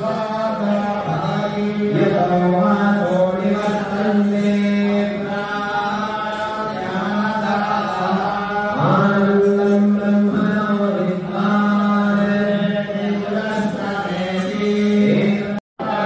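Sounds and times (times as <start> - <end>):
mantra chanting: 0.0 - 16.0.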